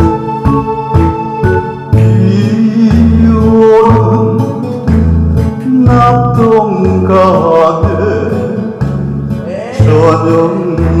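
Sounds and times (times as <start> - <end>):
bass line: 0.0 - 11.0
lead melody: 0.0 - 11.0.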